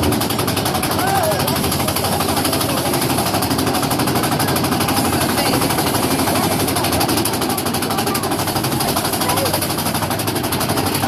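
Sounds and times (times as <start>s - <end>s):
roller coaster clattering on track: 0.0s - 11.0s.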